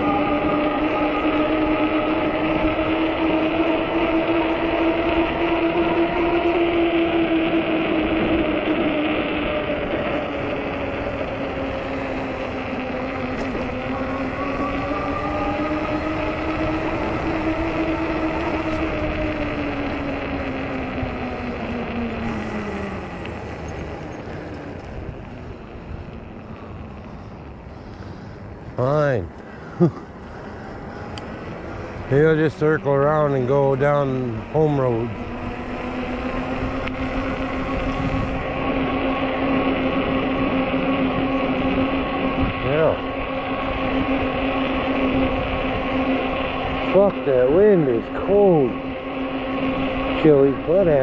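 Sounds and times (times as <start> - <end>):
electric motor whine: 0.0 - 51.0
wind and tire noise: 0.0 - 51.0.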